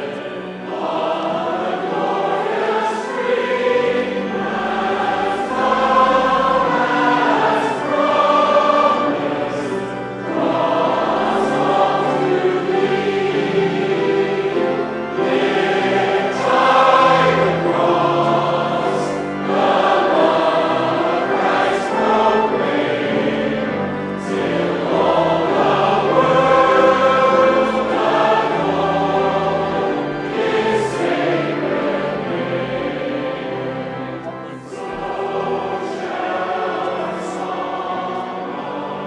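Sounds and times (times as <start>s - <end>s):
choir singing sustained chords: 0.0s - 39.0s.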